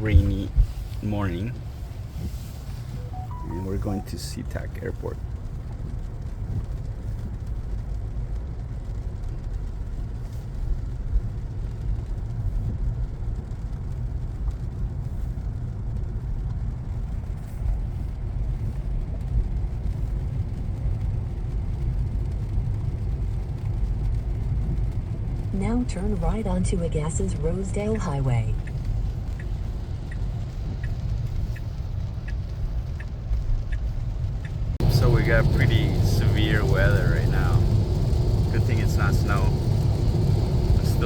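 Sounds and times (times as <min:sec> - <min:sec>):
car tyres and engine rumble: 0:00.0 - 0:41.0.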